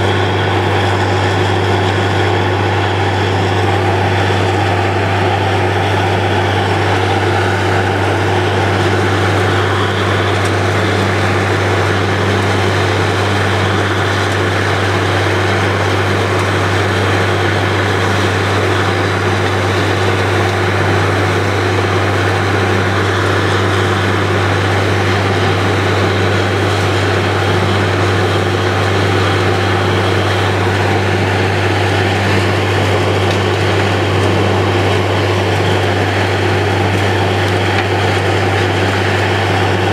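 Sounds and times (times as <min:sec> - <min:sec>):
drilling rig diesel drone: 0:00.0 - 0:39.9.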